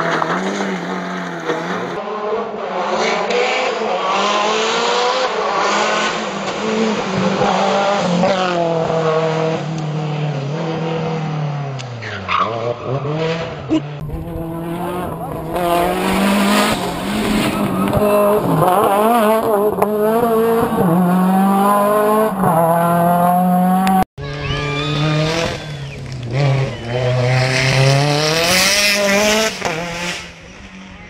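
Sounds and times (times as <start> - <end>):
car engine accelerating hard: 0.0 - 31.0.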